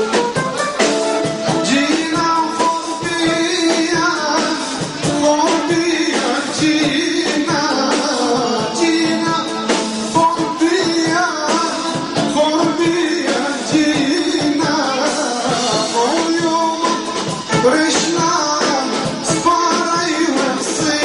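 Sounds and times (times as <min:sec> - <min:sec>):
live band music: 0:00.0 - 0:21.0
person singing: 0:00.0 - 0:21.0.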